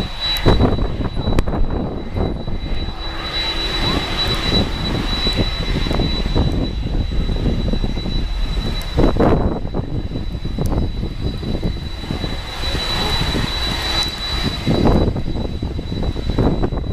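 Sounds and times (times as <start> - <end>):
jet engines roaring at takeoff: 0.0 - 16.9.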